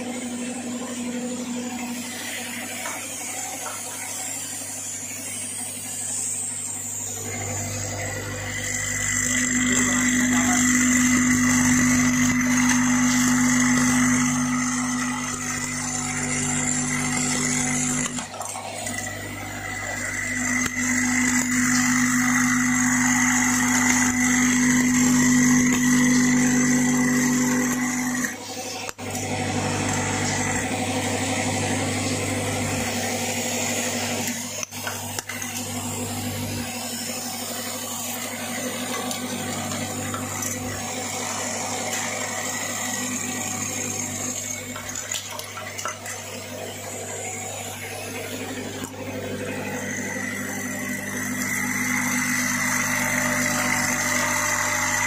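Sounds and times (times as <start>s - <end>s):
electromagnetic hum: 0.0s - 55.0s.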